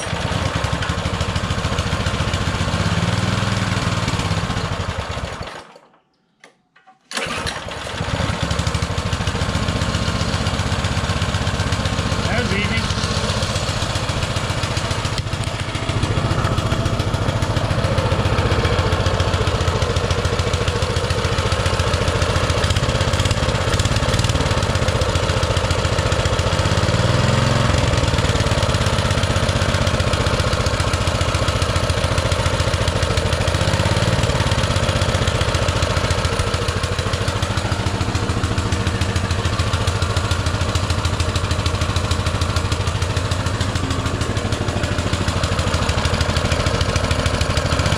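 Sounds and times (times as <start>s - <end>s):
mini bike engine idling: 0.0s - 5.8s, 7.1s - 47.9s.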